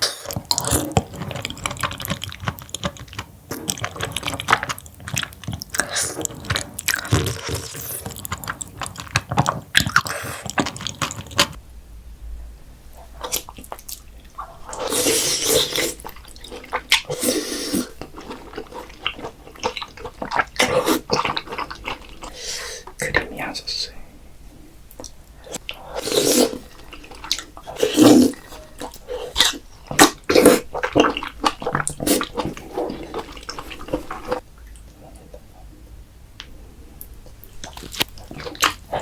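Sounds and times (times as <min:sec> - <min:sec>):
wet chewing and biting: 0:00.1 - 0:11.6, 0:13.2 - 0:22.4, 0:24.9 - 0:35.3, 0:37.2 - 0:39.0.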